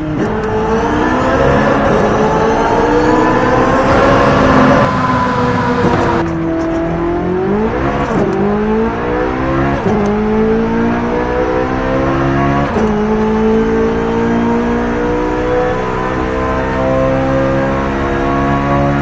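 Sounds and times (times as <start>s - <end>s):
car engine accelerating through gears: 0.0s - 19.0s.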